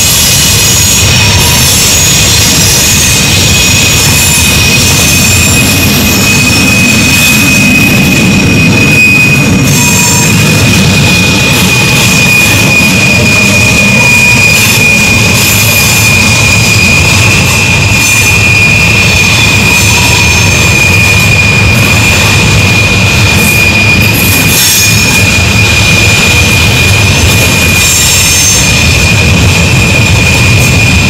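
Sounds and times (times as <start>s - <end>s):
high wheel squeal: 0.0s - 31.0s
train wheels rumbling on rails: 0.0s - 31.0s.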